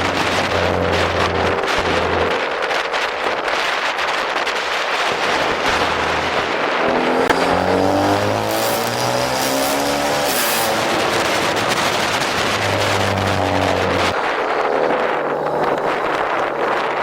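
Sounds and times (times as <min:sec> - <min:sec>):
car engine accelerating: 0:00.0 - 0:03.6, 0:05.1 - 0:17.0
wind and road noise: 0:00.0 - 0:17.0.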